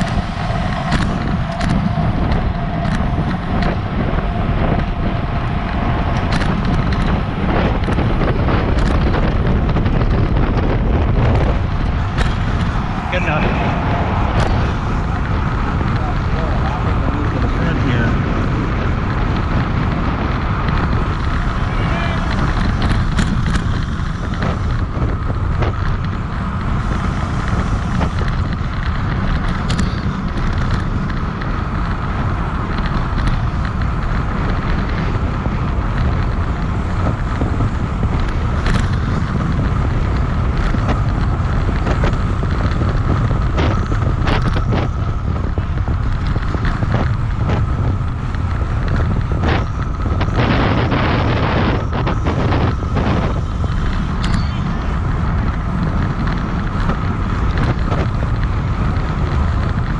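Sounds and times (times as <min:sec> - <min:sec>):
bike clicks and knocks: 0:00.0 - 0:59.9
tyres rumbling on pavement: 0:00.0 - 0:59.9
wind buffeting camera: 0:00.0 - 0:59.9.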